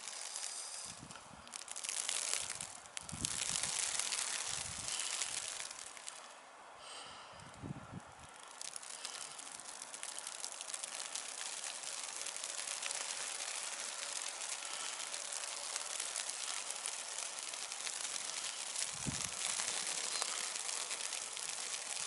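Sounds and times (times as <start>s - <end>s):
wind-driven snow hissing: 0.0s - 22.0s.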